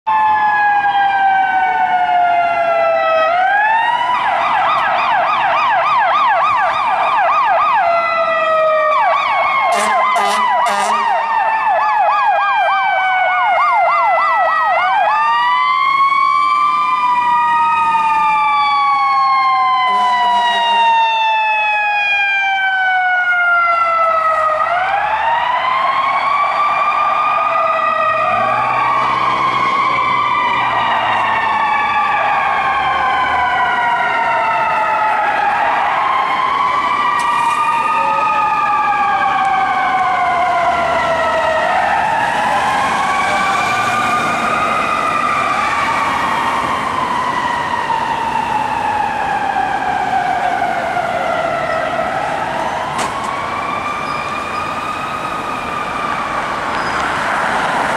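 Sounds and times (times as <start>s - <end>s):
fire engine siren wailing and yelping: 0.1s - 57.9s.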